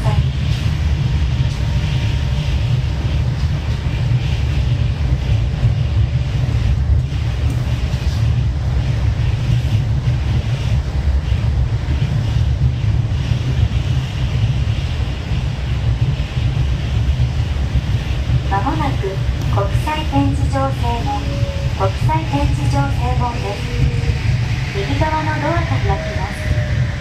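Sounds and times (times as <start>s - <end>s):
train tyres rumbling on guideway: 0.0s - 27.0s.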